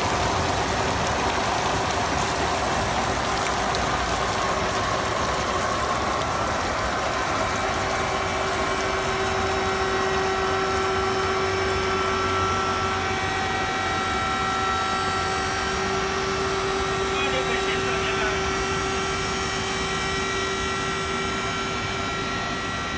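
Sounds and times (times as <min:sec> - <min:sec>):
motor hum: 0:00.0 - 0:22.9
machine whine: 0:04.0 - 0:22.9.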